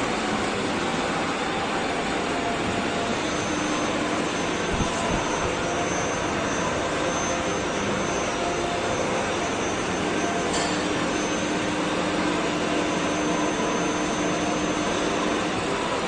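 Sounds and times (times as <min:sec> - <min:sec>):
injection molding machine whirring: 0:00.0 - 0:16.0.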